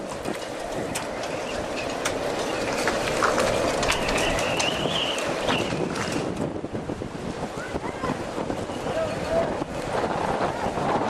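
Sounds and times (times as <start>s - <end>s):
storm wind blowing hard: 0.0s - 11.0s.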